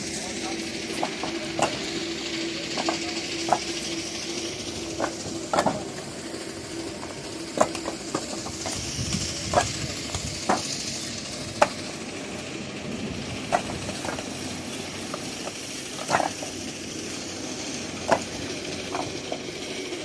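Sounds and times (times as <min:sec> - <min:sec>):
steady hiss: 0:00.0 - 0:20.0
construction knocks and clacks: 0:00.1 - 0:12.0, 0:13.4 - 0:20.0.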